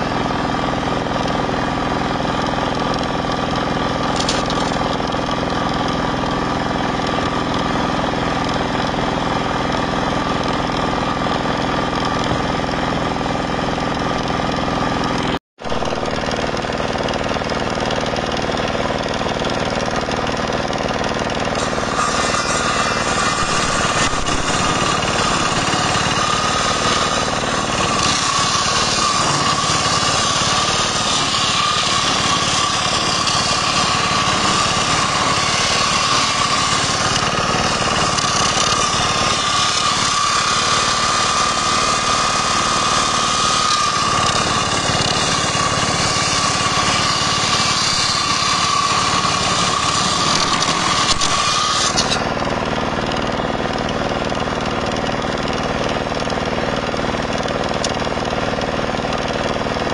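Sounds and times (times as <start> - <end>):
circular saw ripping timber: 0.0 - 59.9
spinning saw blade whine: 0.0 - 59.9.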